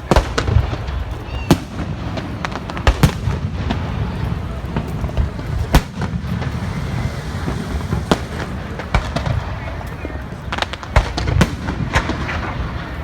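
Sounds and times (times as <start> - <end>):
continuous low rumble: 0.0 - 13.0
fireworks banging: 0.0 - 13.0.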